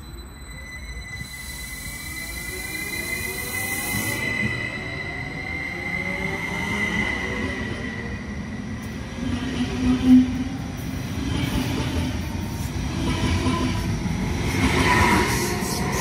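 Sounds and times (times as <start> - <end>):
electric train wheels rumbling: 0.0 - 16.0.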